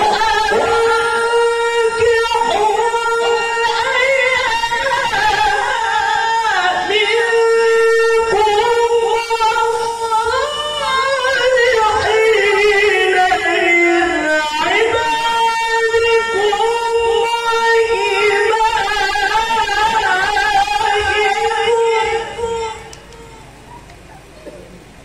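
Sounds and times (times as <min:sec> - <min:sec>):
man reciting melismatic chant: 0:00.0 - 0:23.7.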